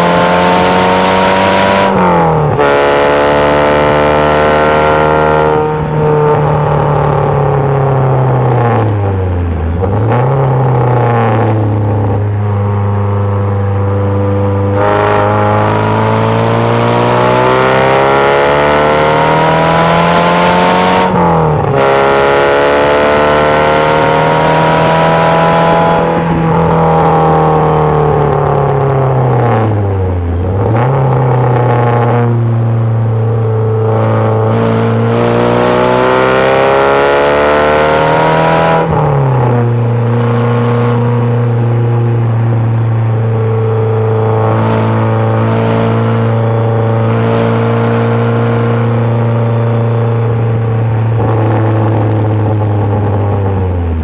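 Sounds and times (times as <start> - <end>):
car engine at racing speed: 0.0 - 54.0.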